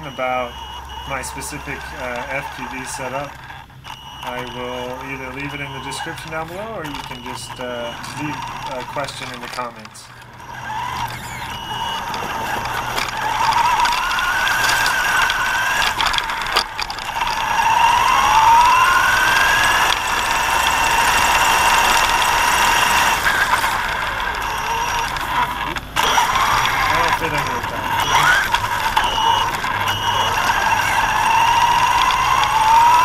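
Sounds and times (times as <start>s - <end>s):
electric motor whining: 0.0s - 33.0s
tires and drivetrain noise: 0.0s - 33.0s.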